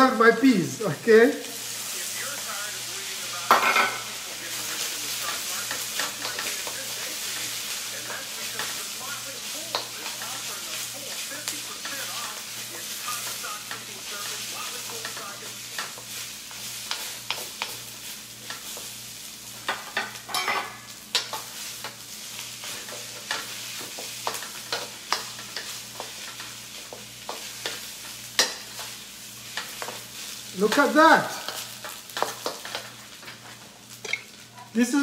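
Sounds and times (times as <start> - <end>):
rice sizzling in a wok: 0.0 - 35.0
spatula clacking and scraping wok: 3.4 - 34.4.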